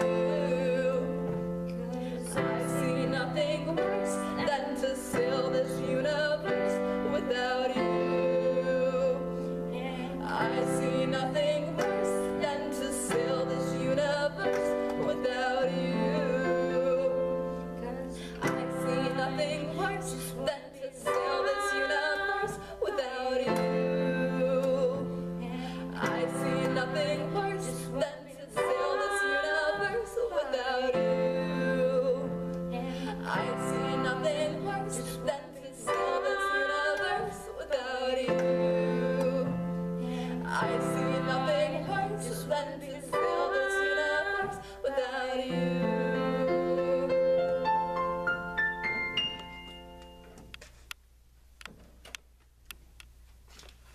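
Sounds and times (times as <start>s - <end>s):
woman singing with vibrato: 0.0s - 47.7s
digital piano chords: 0.0s - 50.6s.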